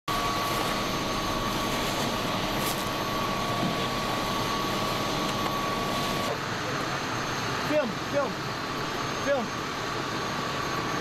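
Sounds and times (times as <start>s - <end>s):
engine drone: 0.1s - 11.0s
thin high whine: 0.1s - 11.0s.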